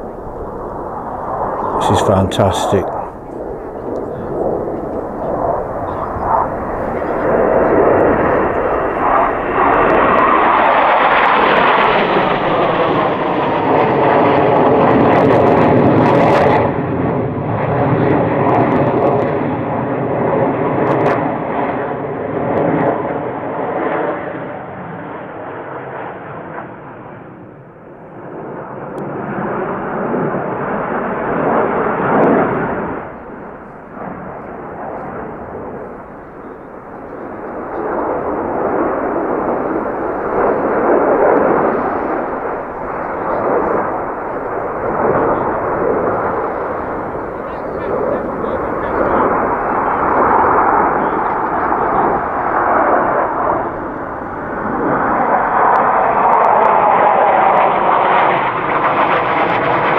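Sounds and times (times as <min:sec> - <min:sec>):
jets flying past roaring: 0:00.0 - 0:59.9.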